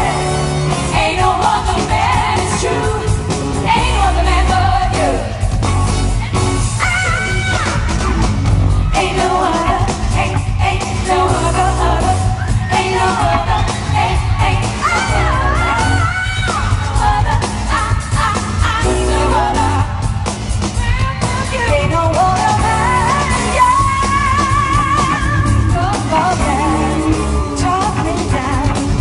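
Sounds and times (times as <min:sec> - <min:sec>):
women singing pop song: 0:00.0 - 0:05.6, 0:06.6 - 0:08.0, 0:08.9 - 0:29.0
full band with bass and drums: 0:00.0 - 0:29.0.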